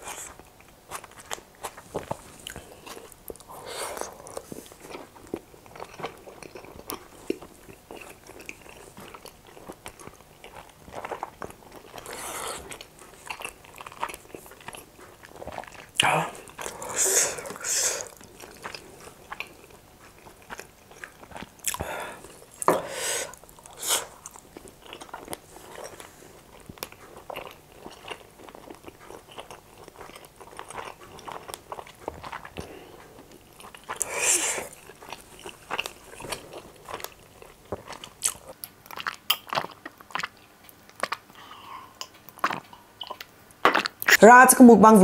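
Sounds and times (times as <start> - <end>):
close chewing with wet smacks: 0.0 - 44.2.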